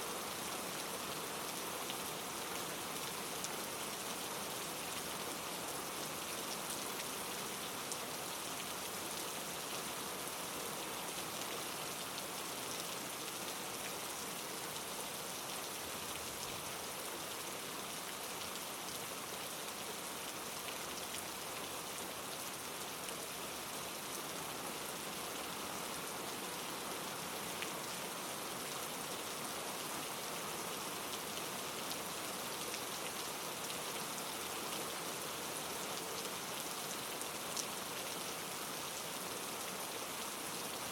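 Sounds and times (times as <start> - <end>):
rain hiss: 0.0 - 40.9.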